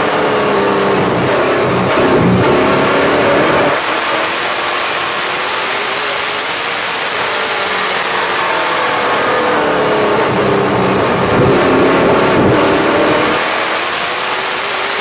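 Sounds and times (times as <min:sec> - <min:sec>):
race car engine under load: 0:00.0 - 0:15.0
wind and road noise: 0:00.0 - 0:15.0.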